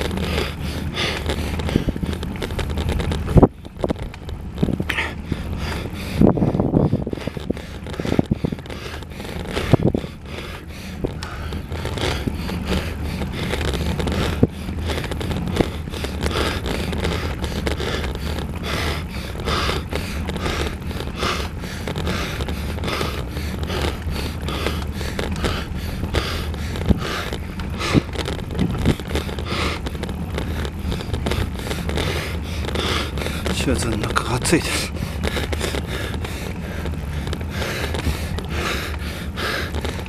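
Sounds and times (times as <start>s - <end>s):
wind and bicycle ride noise: 0.0s - 40.0s.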